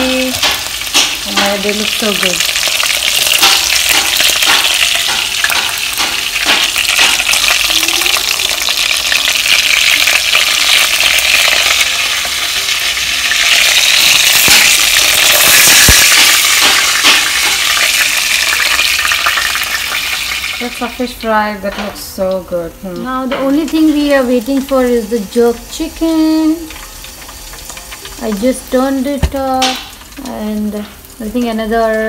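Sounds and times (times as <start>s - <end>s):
fish sizzling in hot oil: 0.0s - 21.5s, 22.3s - 32.0s.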